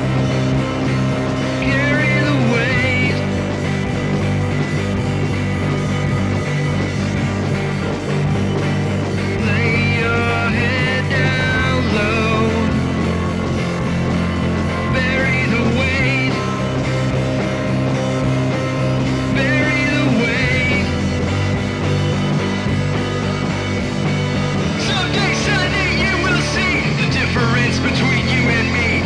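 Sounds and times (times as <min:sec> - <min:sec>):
rock music with bass: 0:00.0 - 0:29.0.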